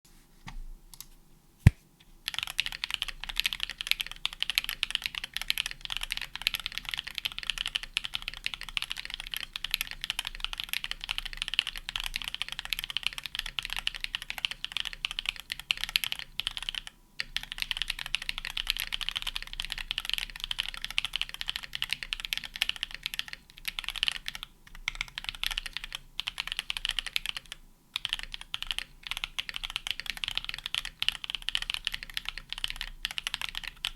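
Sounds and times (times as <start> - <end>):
typing on mechanical keyboard: 2.3 - 33.9.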